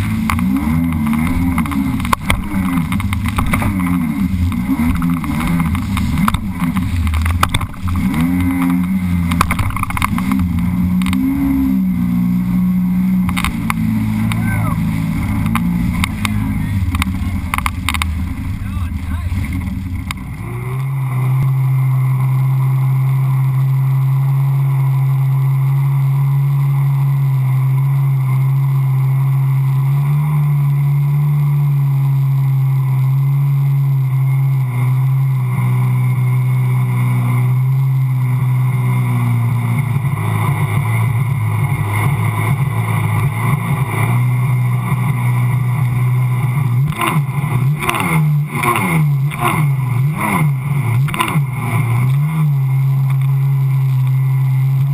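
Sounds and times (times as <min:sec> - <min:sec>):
personal watercraft engine droning: 0:00.0 - 0:54.9.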